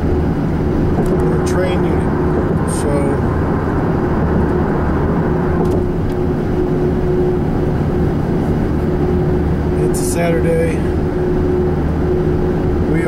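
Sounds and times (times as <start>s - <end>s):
faint steady whine: 0.0s - 13.0s
road and engine rumble: 0.0s - 13.0s.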